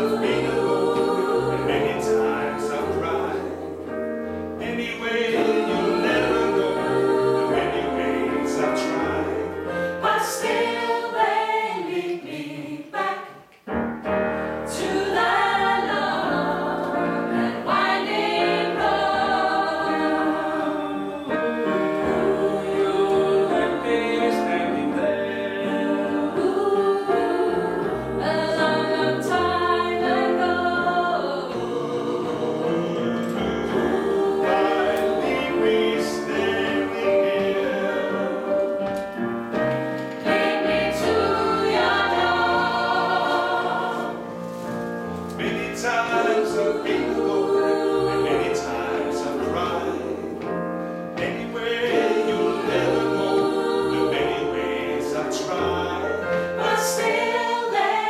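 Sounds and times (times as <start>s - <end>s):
vocal ensemble singing a cappella: 0.0s - 58.0s.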